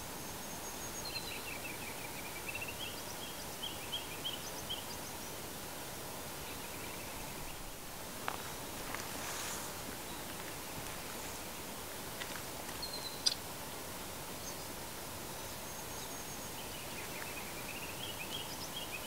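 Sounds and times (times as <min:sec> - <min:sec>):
small birds chirping: 0:00.0 - 0:05.5, 0:06.2 - 0:19.0
steady outdoor hiss: 0:00.0 - 0:19.0.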